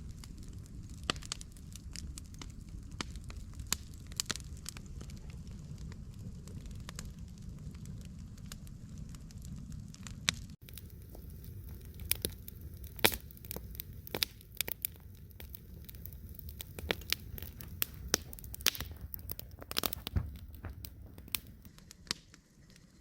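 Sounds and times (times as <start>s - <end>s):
low steady rumble: 0.0s - 21.8s.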